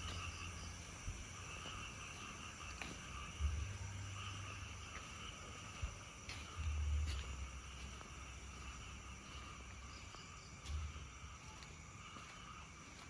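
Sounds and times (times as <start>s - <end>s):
night insects and frogs chorus: 0.0s - 13.0s.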